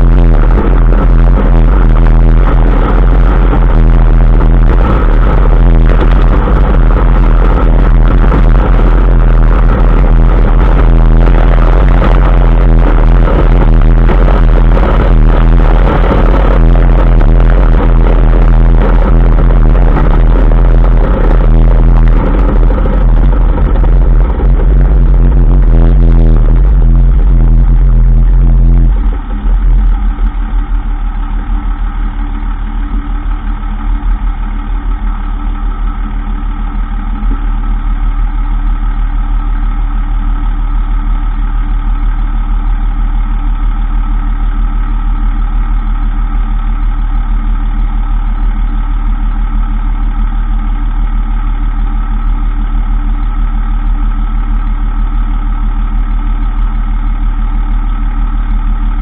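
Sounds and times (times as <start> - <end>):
pickup truck drone: 0.0 - 59.0.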